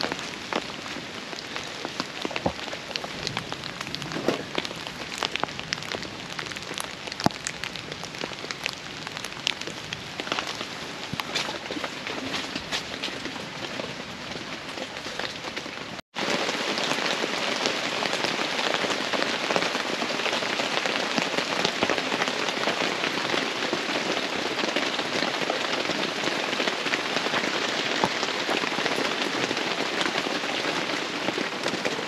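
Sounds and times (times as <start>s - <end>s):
heavy rain and hail: 0.0s - 32.0s.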